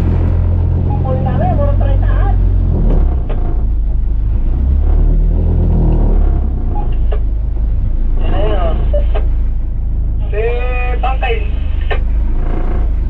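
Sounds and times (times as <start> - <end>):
boat engine low drone: 0.0 - 13.0.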